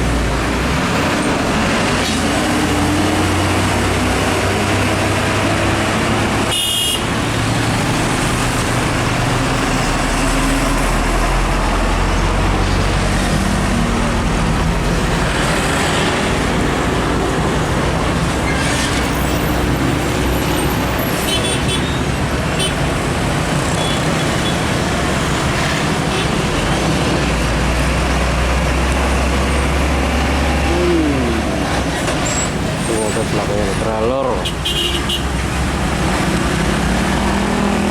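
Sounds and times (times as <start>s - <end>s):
diesel trucks passing: 0.0s - 37.9s
tyre and traffic noise: 0.0s - 37.9s.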